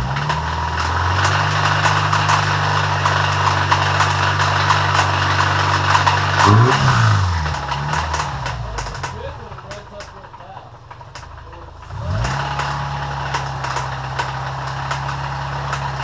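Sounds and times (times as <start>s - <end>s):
engine revving at high rpm: 0.0s - 10.1s, 11.2s - 16.0s
rapid engine ticking: 0.0s - 16.0s.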